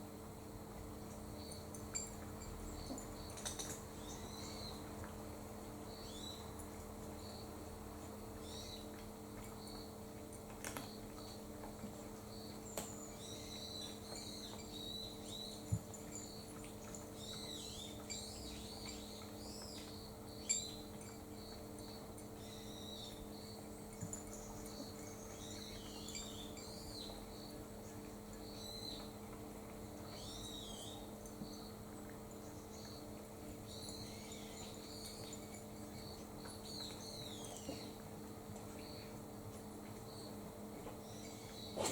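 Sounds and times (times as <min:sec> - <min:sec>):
steady low hum: 0:00.0 - 0:41.9
small birds chirping: 0:01.3 - 0:05.2, 0:05.8 - 0:41.9.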